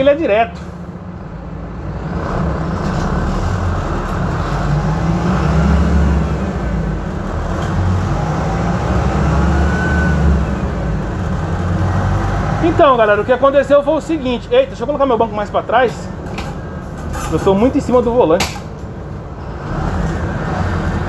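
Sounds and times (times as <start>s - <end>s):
bus engine running: 0.0s - 21.0s.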